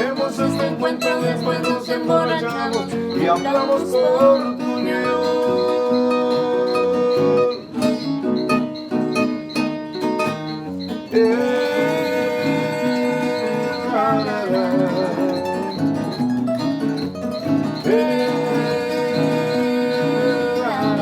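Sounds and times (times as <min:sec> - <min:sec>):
plucked strings rhythm: 0:00.0 - 0:21.0.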